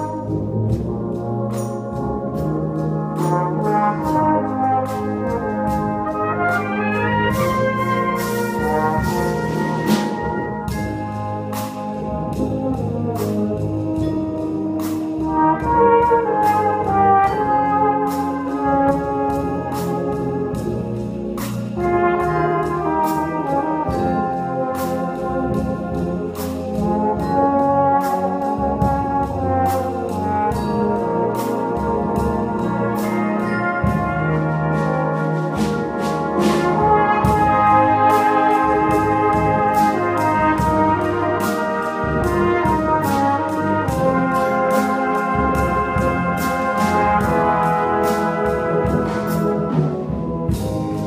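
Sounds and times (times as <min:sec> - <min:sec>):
brass band accompaniment: 0:00.0 - 0:51.0
tenor horn melody: 0:00.0 - 0:51.0.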